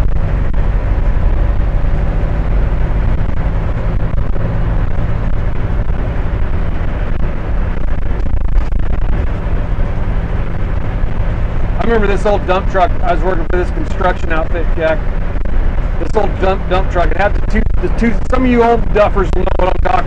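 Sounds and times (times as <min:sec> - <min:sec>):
diesel engine running steadily: 0:00.0 - 0:20.0
road and tyre noise: 0:00.0 - 0:20.0.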